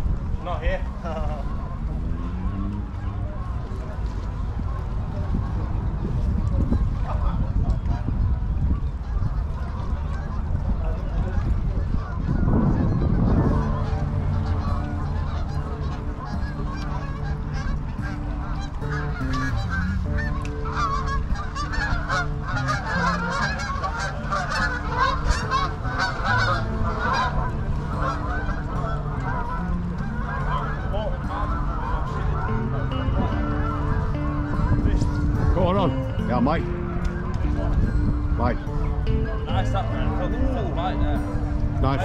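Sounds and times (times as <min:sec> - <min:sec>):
geese honking: 0:01.0 - 0:42.0.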